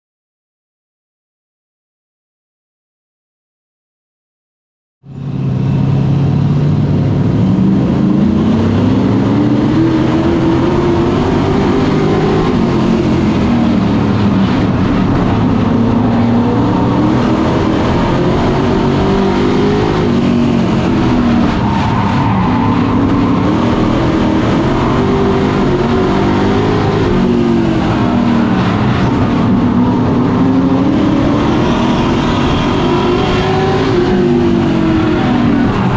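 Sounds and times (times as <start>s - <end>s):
race truck engines at speed: 5.1s - 35.9s.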